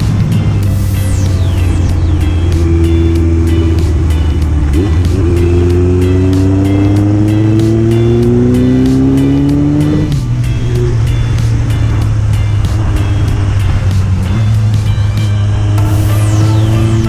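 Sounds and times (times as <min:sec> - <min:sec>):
background music with beat: 0:00.0 - 0:17.0
motorcycle engine accelerating: 0:00.0 - 0:17.0.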